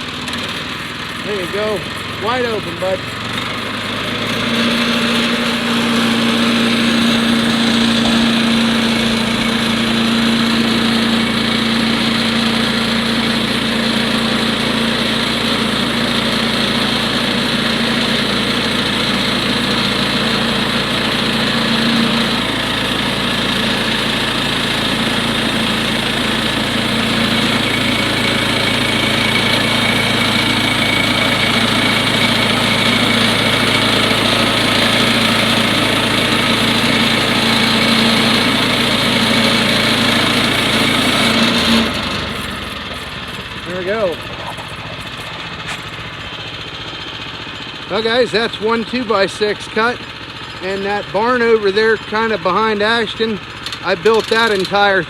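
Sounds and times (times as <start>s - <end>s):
band saw blade cutting wood: 0.0s - 55.0s
small gas engine running: 0.0s - 55.0s.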